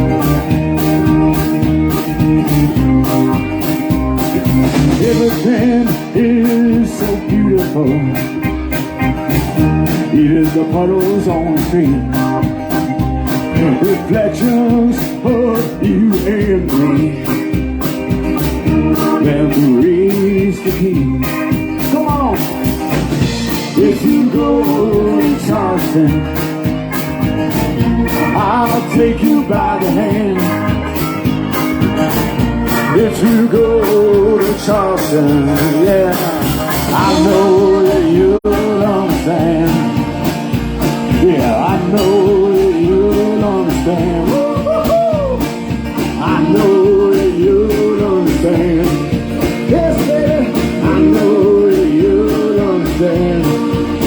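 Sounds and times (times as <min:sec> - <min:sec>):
drum beat: 0:00.0 - 0:54.0
guitar: 0:00.0 - 0:54.0.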